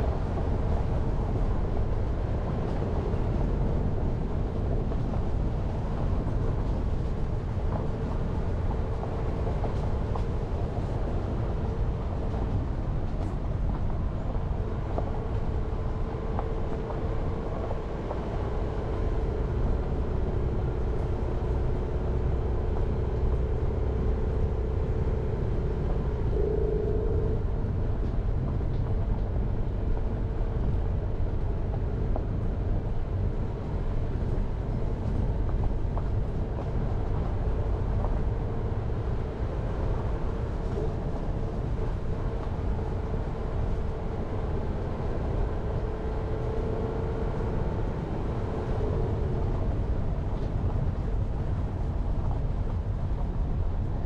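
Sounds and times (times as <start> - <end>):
car engine and tyre noise: 0.0 - 54.0
humming tone: 7.8 - 52.4.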